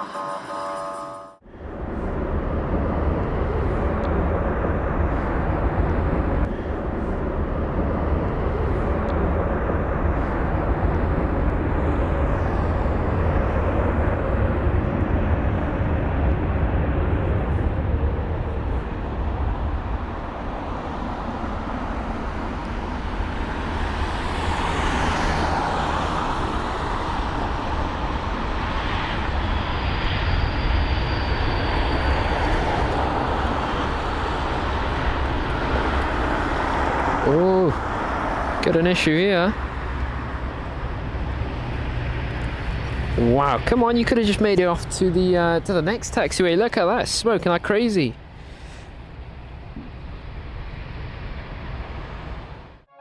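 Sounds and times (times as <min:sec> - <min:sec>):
high engine whine: 0:00.0 - 0:53.0
jet engines rumbling: 0:01.4 - 0:52.9.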